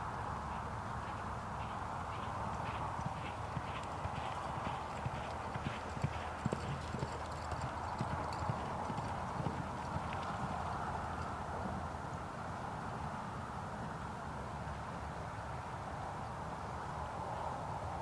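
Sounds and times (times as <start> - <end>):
horse hooves clip-clopping: 0.0 - 15.6.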